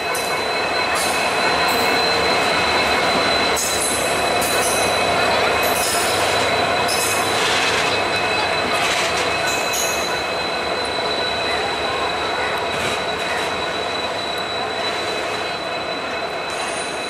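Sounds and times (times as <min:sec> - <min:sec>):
high wheel squeal: 0:00.0 - 0:17.0
train wheels rumbling on rails: 0:00.0 - 0:17.0.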